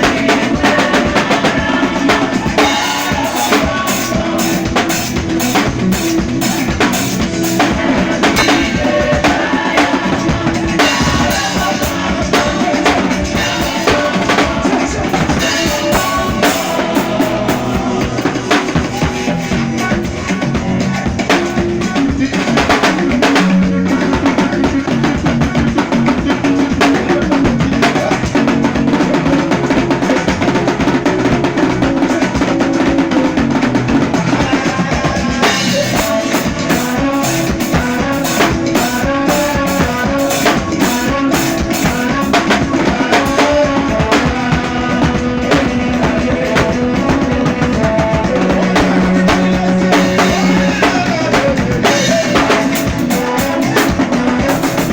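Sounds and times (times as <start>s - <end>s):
backing music: 0.0s - 54.9s
drum kit playing: 0.0s - 54.9s.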